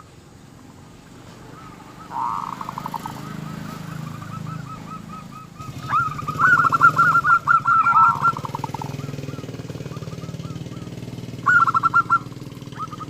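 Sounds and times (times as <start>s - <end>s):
low engine hum: 0.0s - 13.0s
dove cooing and trilling: 1.3s - 13.0s.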